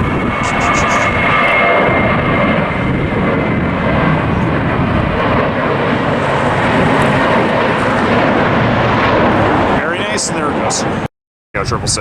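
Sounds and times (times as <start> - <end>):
jet engines at takeoff power: 0.0 - 12.0.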